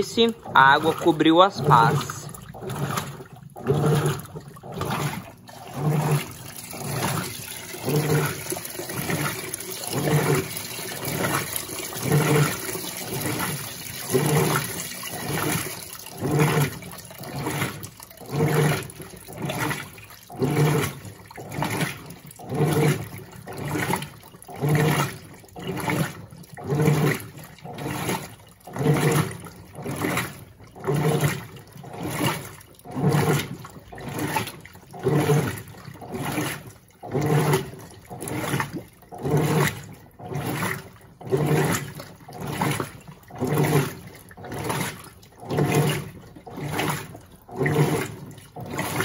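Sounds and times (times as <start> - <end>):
washing machine agitating: 0.0 - 49.0
water running into tub: 0.0 - 49.0
water sloshing: 0.0 - 49.0.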